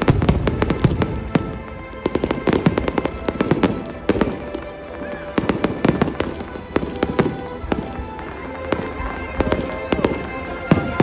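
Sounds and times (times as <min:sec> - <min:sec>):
background music: 0:00.0 - 0:11.0
fireworks bangs: 0:00.0 - 0:11.0.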